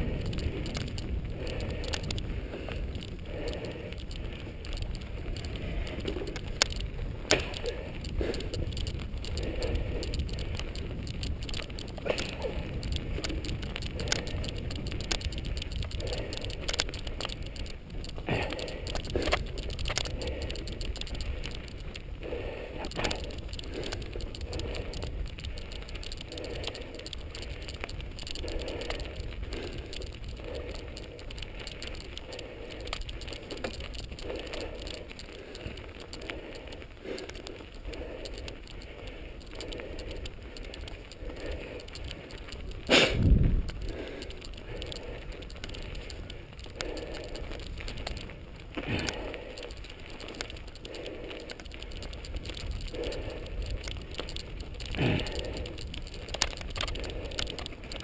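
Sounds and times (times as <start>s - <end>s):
mountain bike rattling on dirt: 0.0s - 58.0s.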